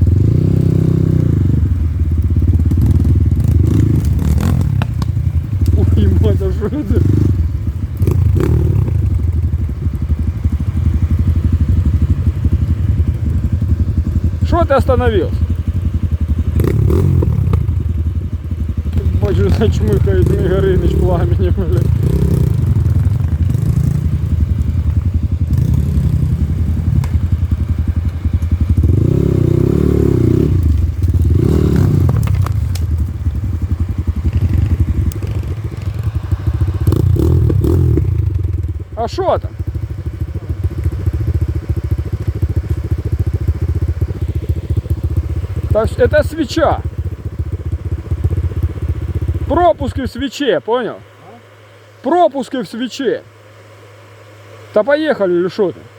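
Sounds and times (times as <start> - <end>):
dirt bike engine idling: 0.0 - 55.9.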